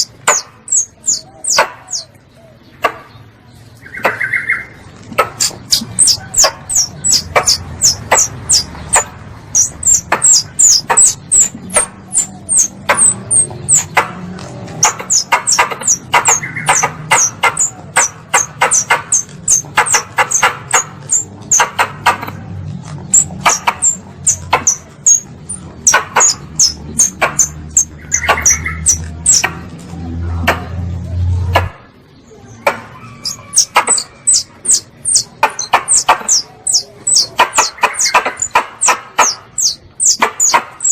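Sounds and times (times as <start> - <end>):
squirrel calls sharp chips: 0.0 - 2.1, 3.8 - 22.4, 23.0 - 29.6, 32.7 - 40.9.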